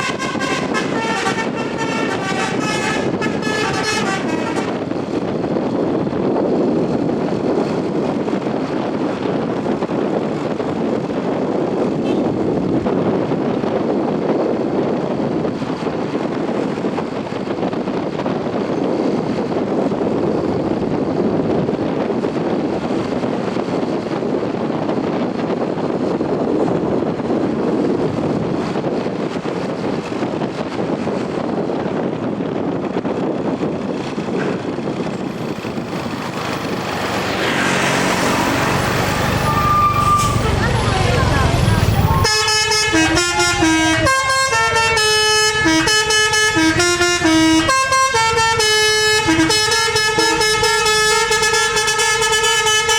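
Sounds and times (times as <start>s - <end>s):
vehicle engine and road noise: 0.0s - 52.9s
wind on microphone: 0.0s - 52.9s.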